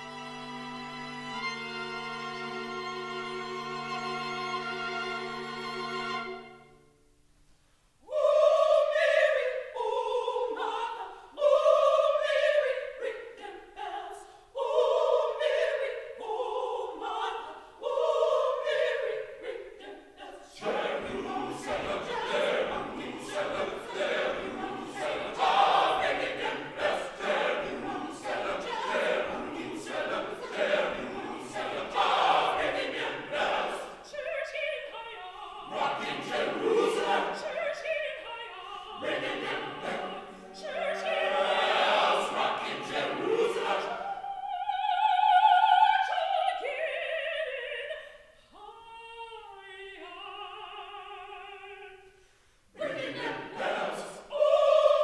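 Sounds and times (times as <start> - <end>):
gospel choir singing: 0.0 - 6.9, 8.0 - 55.0.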